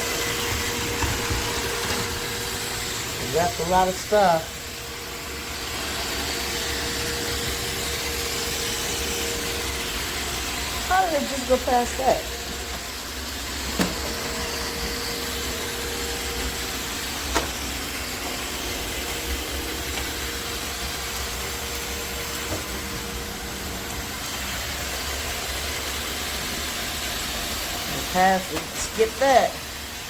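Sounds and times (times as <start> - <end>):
robot vacuum running: 0.0 - 30.0.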